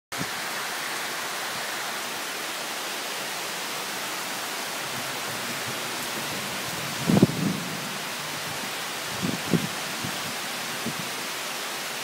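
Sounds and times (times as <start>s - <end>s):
heavy rain pouring: 0.1s - 12.0s.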